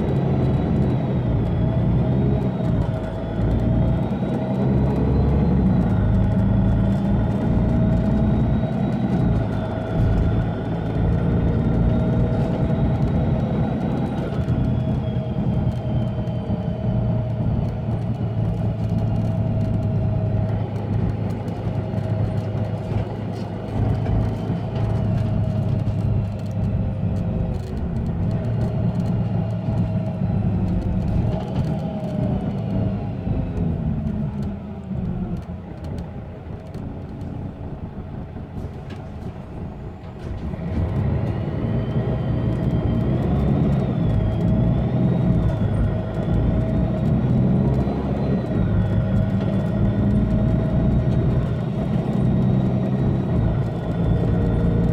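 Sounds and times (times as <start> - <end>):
bus diesel engine drone: 0.0 - 54.9.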